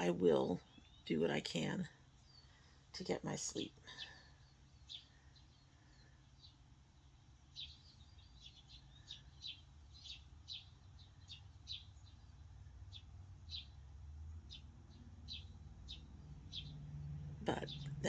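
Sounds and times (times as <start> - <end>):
low steady hum: 0.0 - 18.0
small bird chirping: 0.0 - 18.0.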